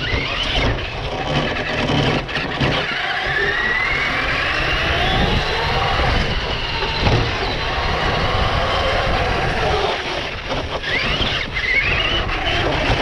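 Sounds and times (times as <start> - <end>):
toy car motor whining: 0.0 - 13.0
tyre and ground rumble: 0.0 - 13.0.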